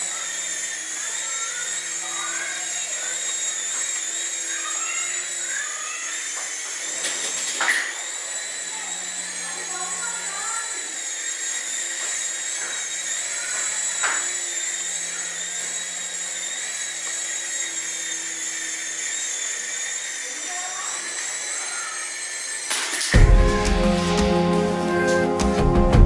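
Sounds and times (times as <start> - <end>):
toy helicopter motors whining: 0.0 - 25.4.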